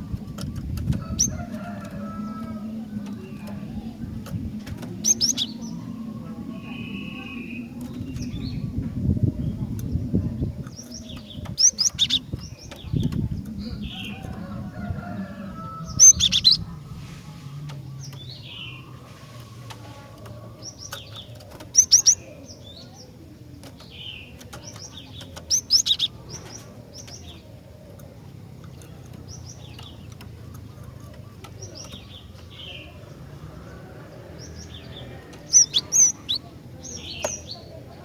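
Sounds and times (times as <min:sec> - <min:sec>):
bird chirping: 0:04.8 - 0:14.8, 0:15.5 - 0:17.0, 0:17.8 - 0:38.0.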